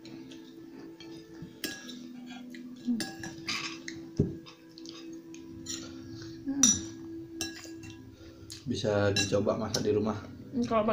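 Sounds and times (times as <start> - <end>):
cutlery clinking on plates: 0.2 - 6.0, 6.6 - 9.9.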